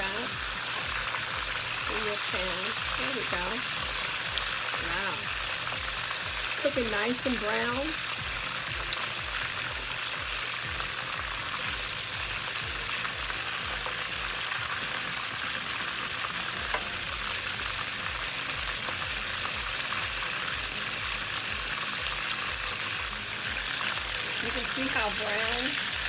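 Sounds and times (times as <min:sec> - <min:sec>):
chicken wings deep-frying in oil: 0:00.0 - 0:26.0.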